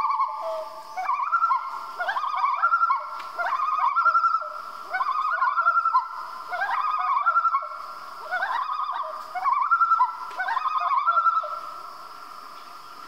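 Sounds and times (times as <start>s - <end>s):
loon tremolo call: 0.0s - 11.9s.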